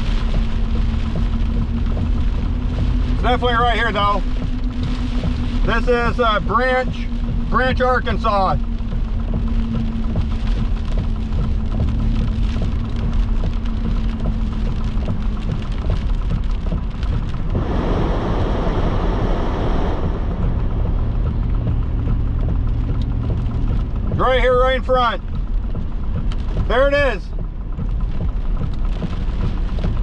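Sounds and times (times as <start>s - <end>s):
steady hum: 0.0s - 26.0s
heavy rain on car roof: 0.0s - 30.0s
low rumble: 0.0s - 30.0s.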